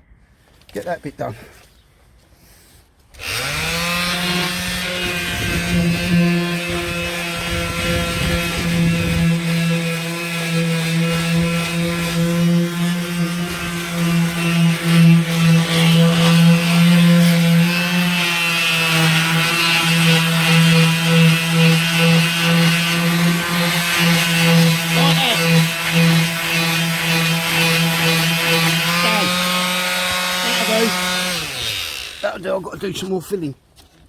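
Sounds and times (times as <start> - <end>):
electric sander humming: 3.2 - 32.4.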